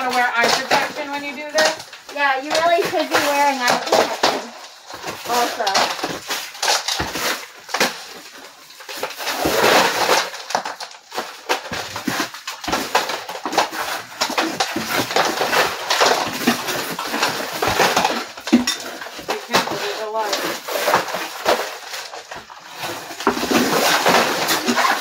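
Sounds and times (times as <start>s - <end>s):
crowbars scraping plaster: 0.0s - 25.0s
plaster crumbling: 0.0s - 25.0s.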